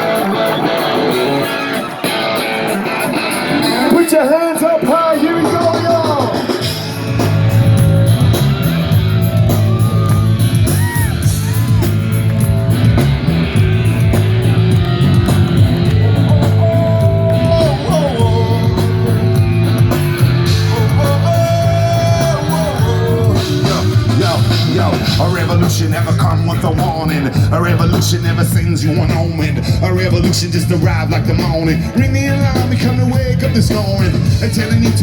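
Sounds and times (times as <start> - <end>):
guitar: 0.0 - 35.0
voices singing and shouting: 0.0 - 35.0
bass line: 5.3 - 35.0.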